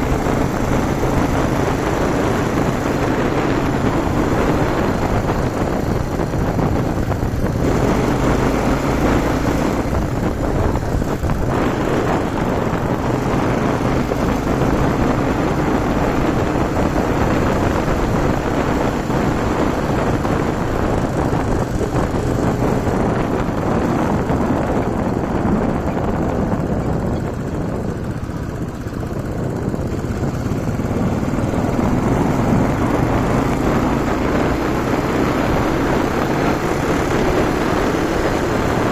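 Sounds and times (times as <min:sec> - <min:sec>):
motorcycle engine running: 0:00.0 - 0:38.9
wind rush over microphone: 0:00.0 - 0:38.9.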